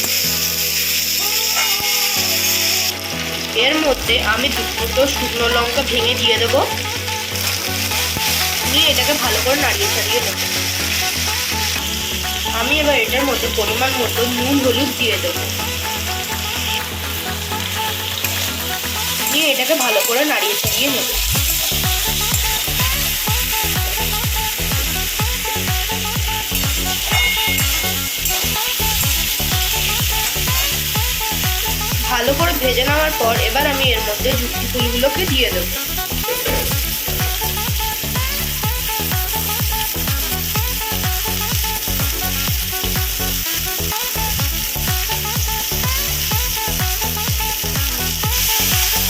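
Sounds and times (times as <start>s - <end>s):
background music with beat: 0.0s - 49.0s
potatoes sizzling in oil: 0.0s - 49.0s.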